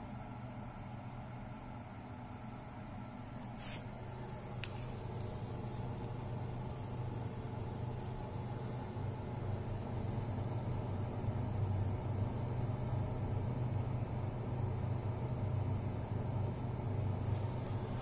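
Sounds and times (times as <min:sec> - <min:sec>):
dehumidifier humming: 0:00.0 - 0:18.0.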